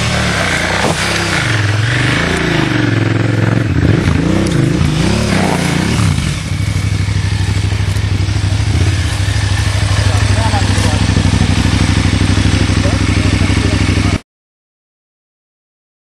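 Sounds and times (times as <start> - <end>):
motorcycle engine idling: 0.0 - 14.2
motorcycle engine revving: 0.0 - 14.2.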